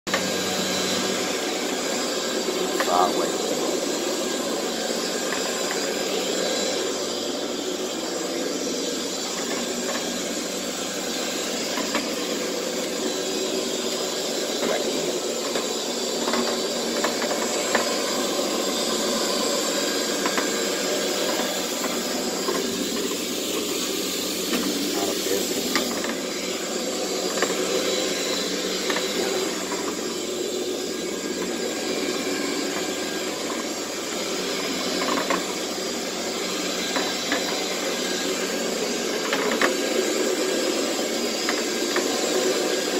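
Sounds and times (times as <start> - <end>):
carpet scrubbing machine humming: 0.1 - 42.9.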